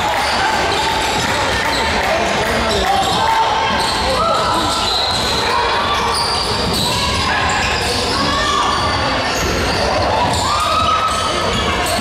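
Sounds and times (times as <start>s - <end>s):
voices echoing in hall: 0.0s - 12.0s.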